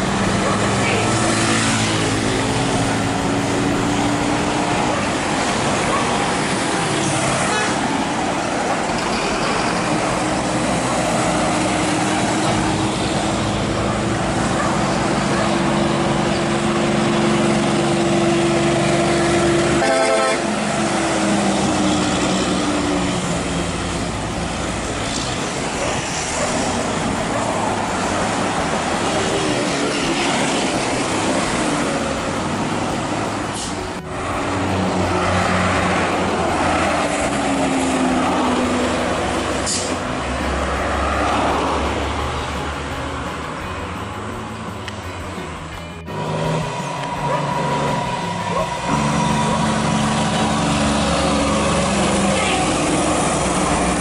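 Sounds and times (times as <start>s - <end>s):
trucks and cars passing: 0.0s - 54.0s
tyre and road noise: 0.0s - 54.0s.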